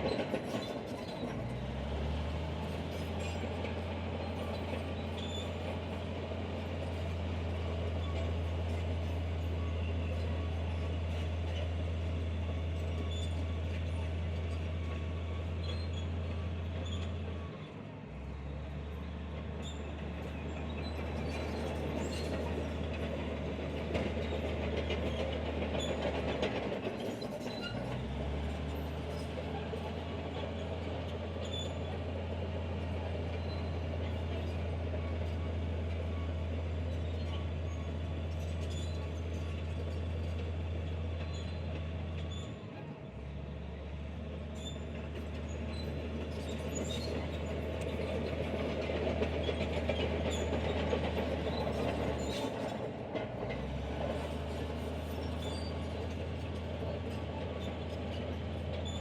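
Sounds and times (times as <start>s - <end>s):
diesel machinery drone: 0.0s - 59.0s.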